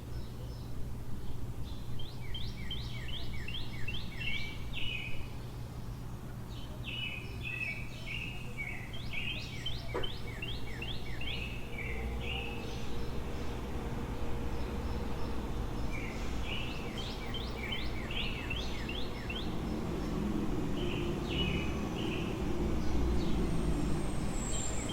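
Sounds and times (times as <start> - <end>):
low city hum: 0.0 - 24.9
songbird singing: 0.0 - 24.9.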